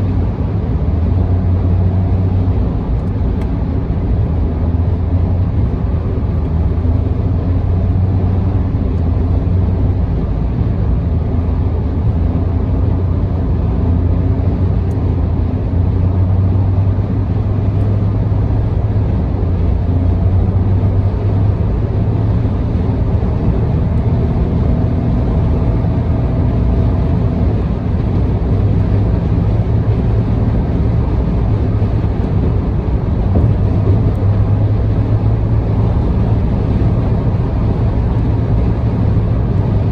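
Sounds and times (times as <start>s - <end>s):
car cabin road noise: 0.0s - 39.9s.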